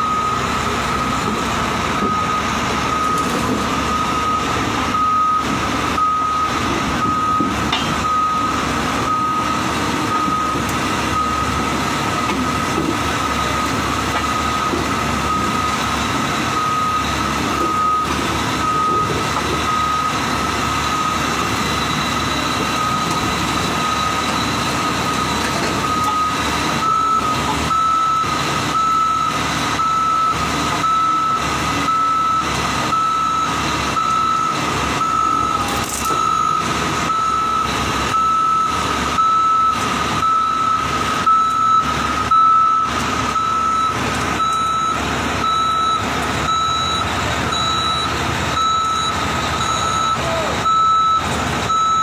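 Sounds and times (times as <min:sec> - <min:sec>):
diesel engine running: 0:00.0 - 0:52.0
reversing alarm beeping: 0:00.0 - 0:52.0.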